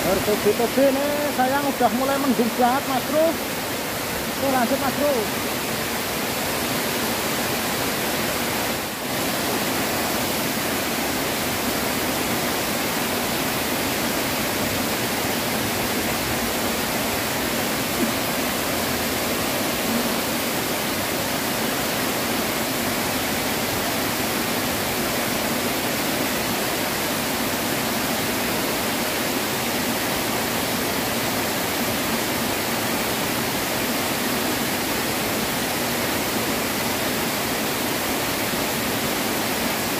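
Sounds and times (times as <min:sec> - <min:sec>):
water rushing over weir: 0:00.0 - 0:39.9.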